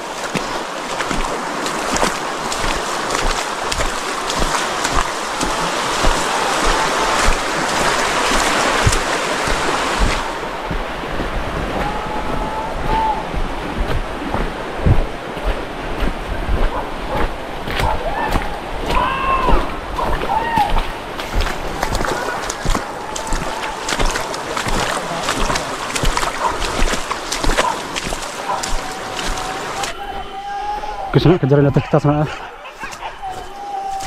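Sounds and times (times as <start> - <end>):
wind buffeting microphone: 0.0 - 30.2
water splashing: 0.0 - 31.1
river running over stones: 0.0 - 31.7.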